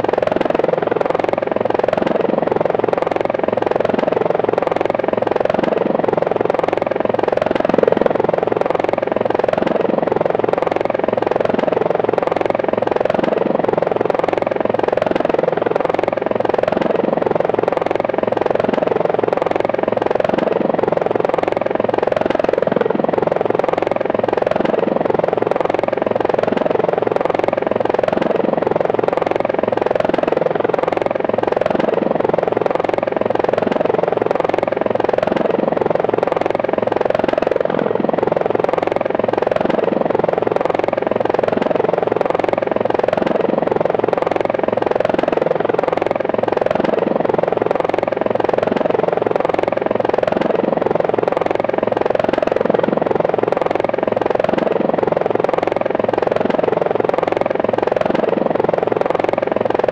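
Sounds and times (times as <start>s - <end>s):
helicopter rotor drone: 0.0s - 59.9s.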